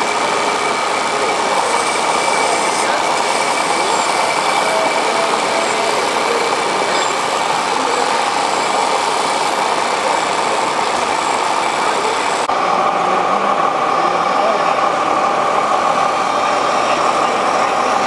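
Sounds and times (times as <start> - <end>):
hall background noise: 0.0 - 18.0
model truck engine idling: 0.0 - 18.0
thin steady high tone: 0.0 - 18.0.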